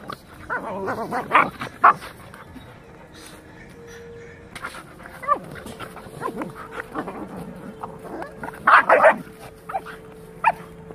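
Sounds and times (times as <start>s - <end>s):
dogs yelping and growling: 0.0s - 10.9s.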